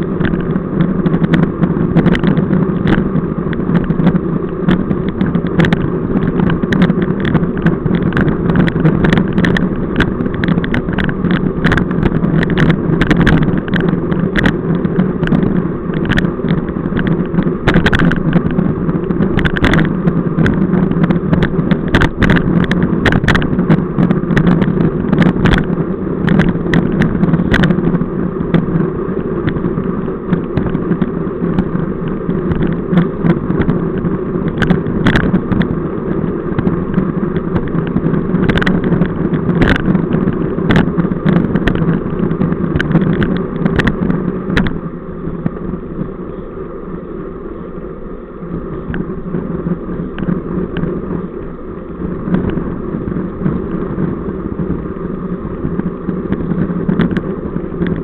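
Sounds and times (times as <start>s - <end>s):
bike knocks and rattles: 0.0s - 46.4s
bicycle road rumble: 0.0s - 58.0s
wind buffeting microphone: 0.0s - 58.0s.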